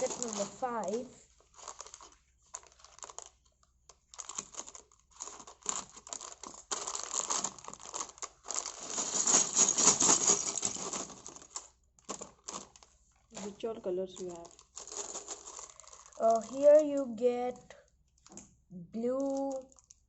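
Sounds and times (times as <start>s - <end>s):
plastic parts rattling: 0.0s - 17.1s, 19.1s - 20.0s
plastic bag crinkling: 0.0s - 18.5s, 19.1s - 20.0s.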